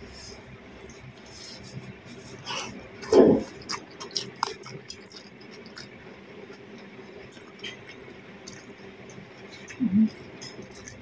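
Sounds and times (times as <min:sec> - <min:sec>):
person chewing food: 0:00.3 - 0:11.0.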